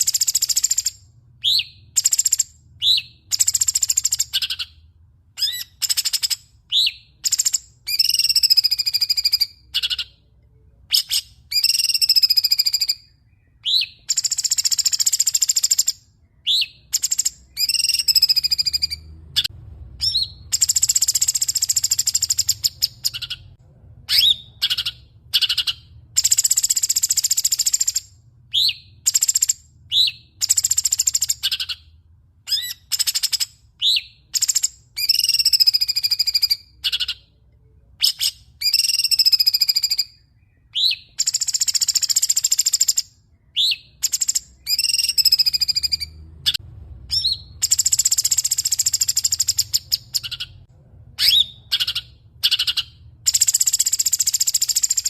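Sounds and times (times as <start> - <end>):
faint low hum: 0.0 - 11.6, 12.8 - 38.7, 39.9 - 53.7
songbird singing: 0.0 - 55.0.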